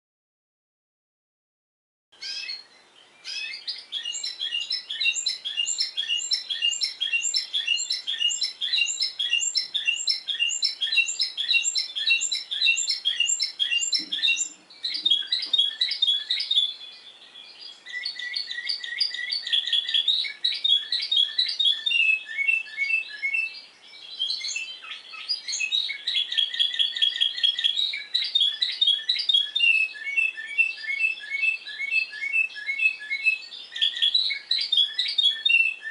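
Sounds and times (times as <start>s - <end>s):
canary singing: 2.2s - 35.9s.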